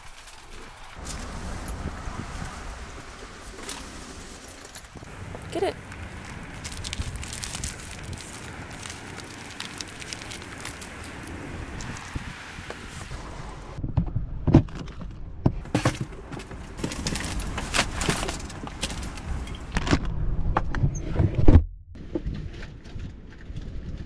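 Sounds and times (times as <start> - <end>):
wind noise: 0.6 - 24.0.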